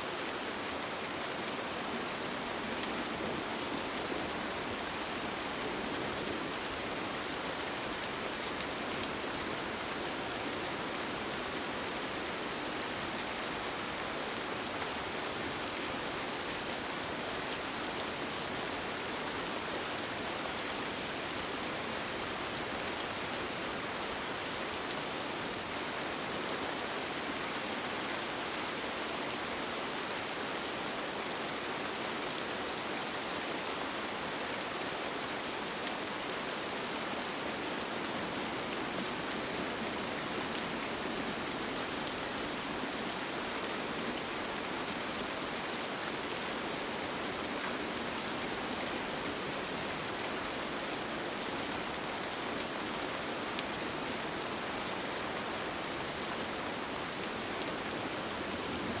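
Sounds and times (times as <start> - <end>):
rain falling on a tent: 0.0 - 59.0.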